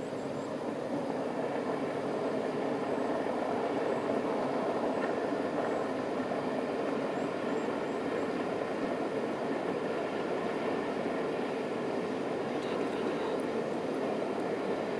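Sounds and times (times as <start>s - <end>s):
distant steam train rumble: 0.0s - 14.9s.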